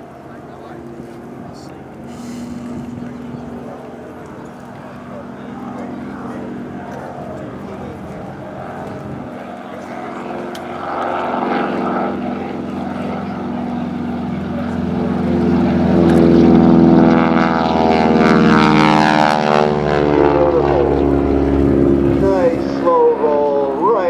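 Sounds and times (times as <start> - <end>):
propeller plane passing by: 0.0 - 24.0.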